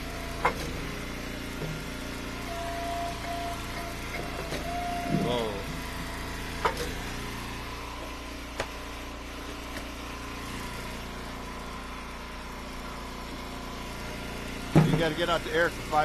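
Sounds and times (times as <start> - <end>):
log splitter engine running: 0.0 - 16.0.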